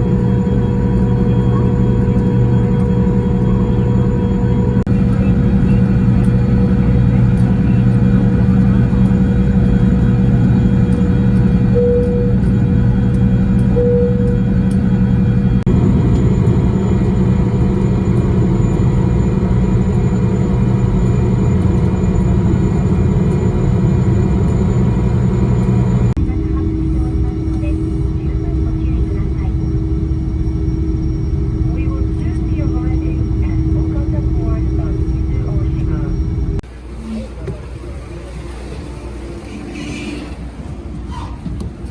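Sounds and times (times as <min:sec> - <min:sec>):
vehicle engine running with whine: 0:00.0 - 0:41.9.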